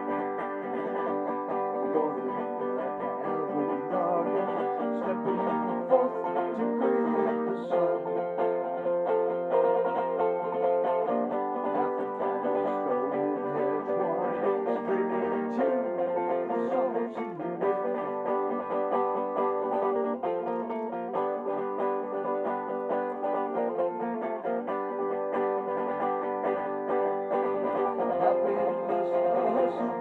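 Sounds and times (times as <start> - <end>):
guitar and banjo picking: 0.0 - 30.0.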